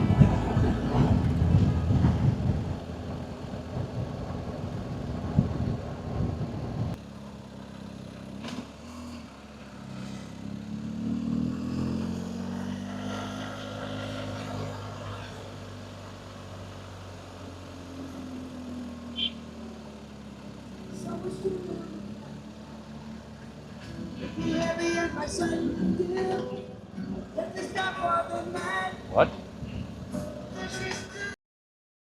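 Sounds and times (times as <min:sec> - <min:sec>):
road noise: 0:00.0 - 0:31.4
vehicle engine running: 0:00.0 - 0:31.4.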